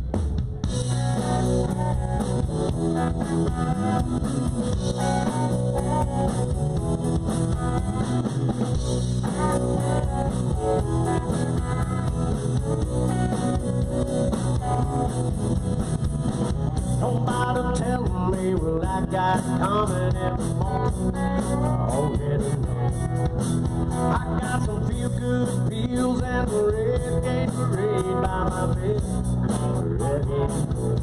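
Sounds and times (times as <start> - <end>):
rock band playing instrumental: 0.0 - 31.0.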